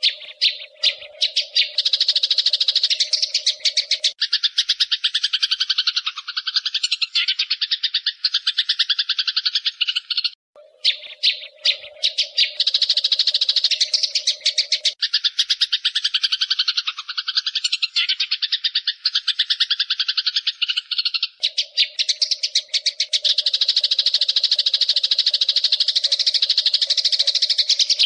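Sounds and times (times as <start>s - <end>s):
sparrows chirping rapidly: 0.0s - 28.0s.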